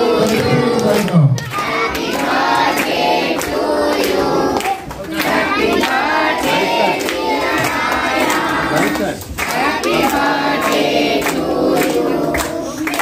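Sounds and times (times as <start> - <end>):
group singing together: 0.0 - 13.0
hand claps: 0.2 - 13.0.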